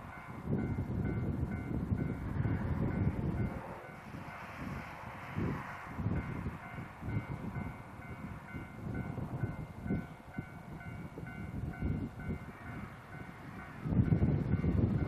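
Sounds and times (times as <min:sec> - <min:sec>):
locomotive engines rumbling: 0:00.0 - 0:15.0.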